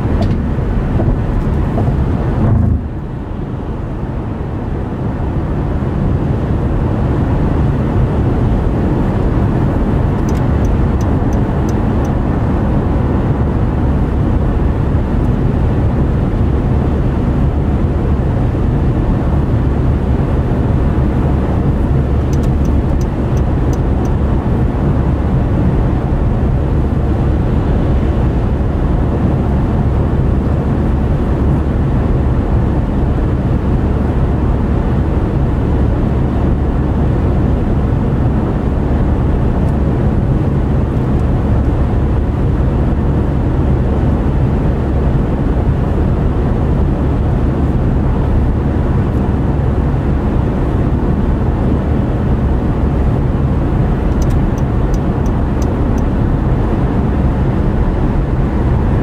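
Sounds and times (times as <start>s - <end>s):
car driving on motorway: 0.0s - 59.0s.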